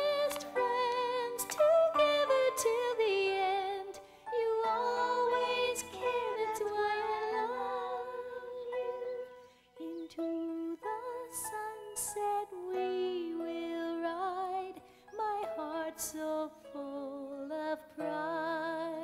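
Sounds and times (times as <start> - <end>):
children's song instrumental music: 0.0 - 19.0.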